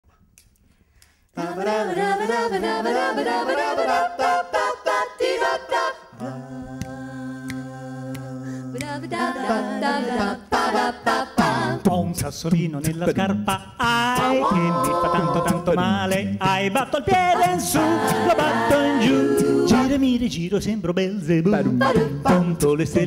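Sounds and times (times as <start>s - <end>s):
a cappella group singing: 1.3s - 20.5s, 21.2s - 23.0s.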